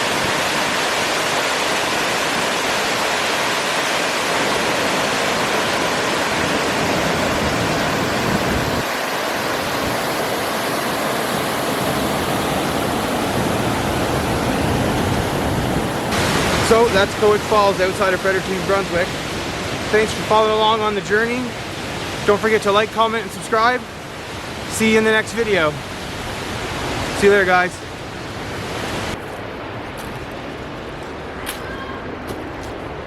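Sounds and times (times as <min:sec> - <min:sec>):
waterfall rushing: 0:00.0 - 0:29.2.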